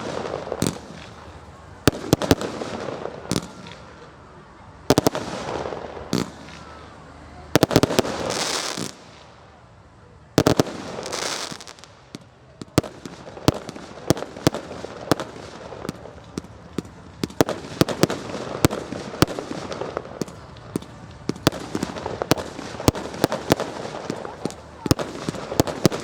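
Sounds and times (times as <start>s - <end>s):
fireworks bangs: 0.0s - 9.6s, 10.3s - 26.0s
fireworks crackle hiss: 0.0s - 26.0s
rumble of firework bursts: 0.0s - 26.0s.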